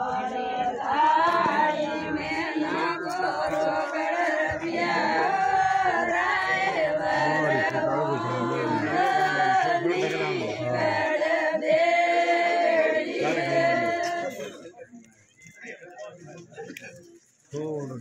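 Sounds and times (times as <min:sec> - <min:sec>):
women singing together: 0:00.0 - 0:14.6.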